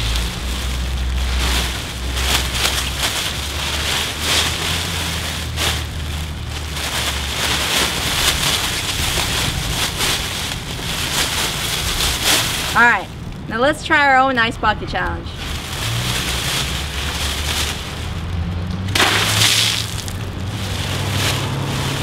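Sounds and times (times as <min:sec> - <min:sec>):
foil wrap crinkling: 0:00.0 - 0:13.3, 0:15.4 - 0:22.0.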